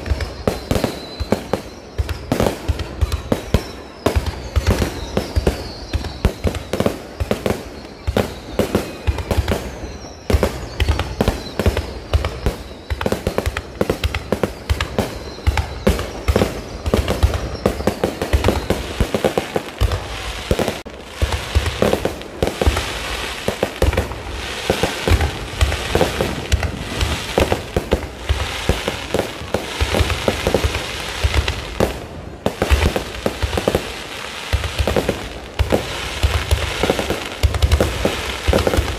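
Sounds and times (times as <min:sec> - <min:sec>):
fireworks banging: 0:00.0 - 0:38.9
fireworks crackling: 0:00.0 - 0:38.9
fireworks falling whistles: 0:00.0 - 0:38.9.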